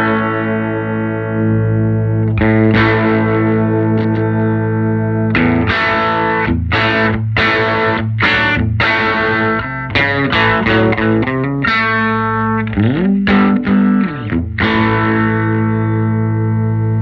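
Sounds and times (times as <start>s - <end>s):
overdriven electric guitar chords: 0.0s - 17.0s.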